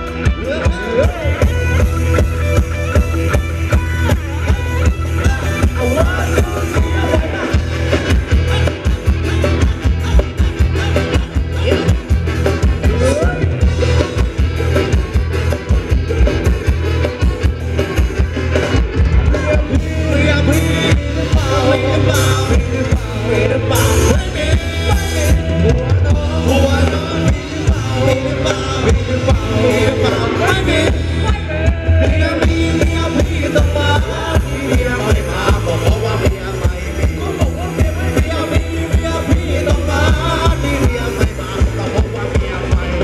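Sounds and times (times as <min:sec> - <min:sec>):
live band music: 0:00.0 - 0:43.0
strong bass line: 0:00.0 - 0:43.0.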